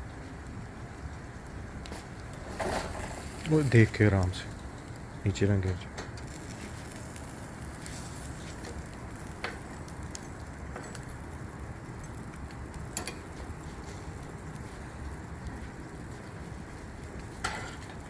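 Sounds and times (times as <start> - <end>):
fire crackling: 0.0 - 18.0
fish sizzling on a grill: 0.0 - 18.0.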